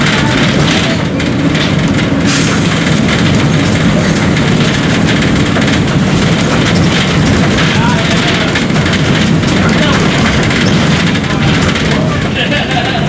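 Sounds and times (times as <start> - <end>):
diesel bus engine droning: 0.0 - 13.0.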